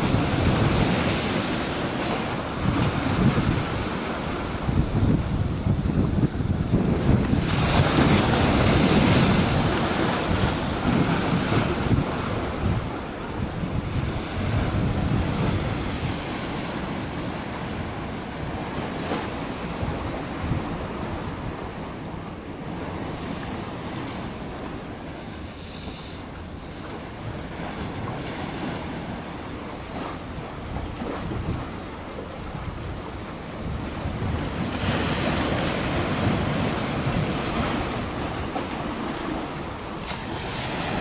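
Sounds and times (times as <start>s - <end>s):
wind buffeting microphone: 0.0s - 25.2s, 25.8s - 41.0s
sea waves washing: 0.0s - 41.0s.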